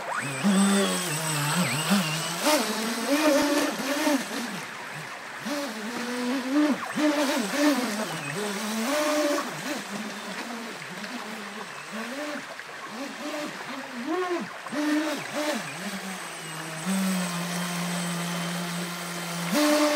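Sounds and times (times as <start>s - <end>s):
fast-flowing water rushing: 0.0s - 19.9s
rc boat motor whining: 0.0s - 19.9s.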